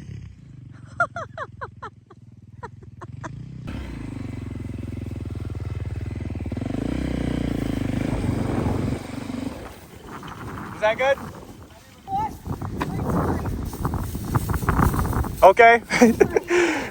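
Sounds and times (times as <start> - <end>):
four-wheeler engine: 0.0 - 16.9.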